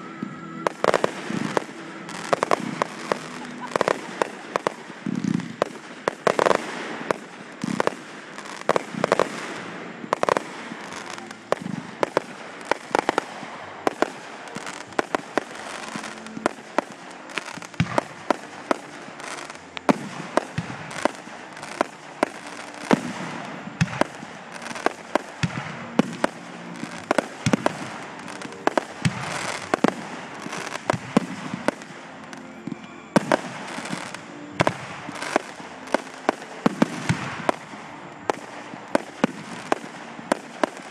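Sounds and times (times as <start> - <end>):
fireworks bangs and pops: 0.0 - 40.9
fireworks crackling: 0.0 - 40.9.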